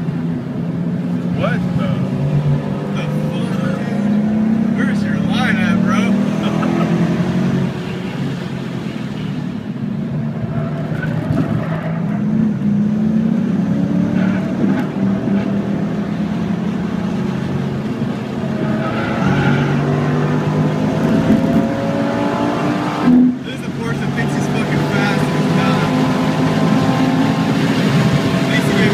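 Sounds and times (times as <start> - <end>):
car engine at full throttle: 0.0 - 28.9
road and wind noise: 0.0 - 28.9.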